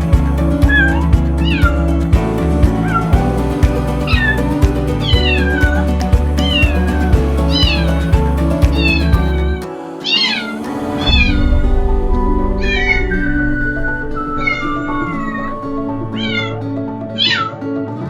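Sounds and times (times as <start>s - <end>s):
background music with beat: 0.0s - 18.0s.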